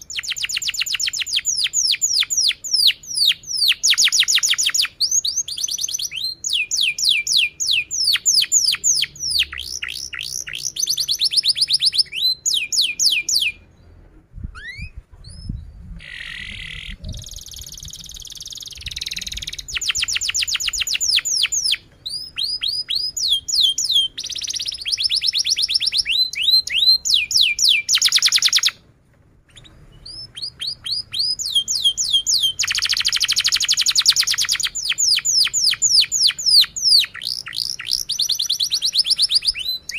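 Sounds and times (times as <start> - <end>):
canary singing trills: 0.0 - 28.8, 29.5 - 39.9.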